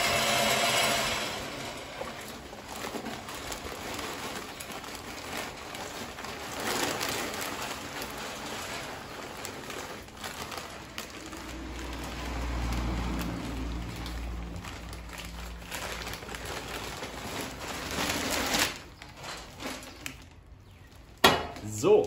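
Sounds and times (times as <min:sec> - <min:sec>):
pellets pouring onto metal: 0:00.0 - 0:20.1.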